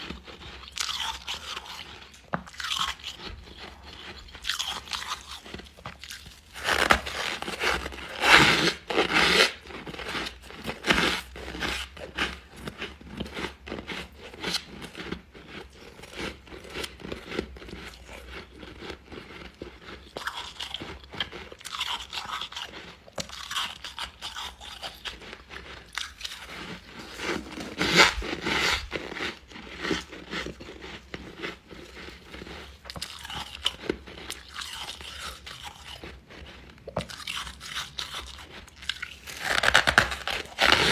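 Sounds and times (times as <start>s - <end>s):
frost being chewed crunching: 0.0s - 40.9s.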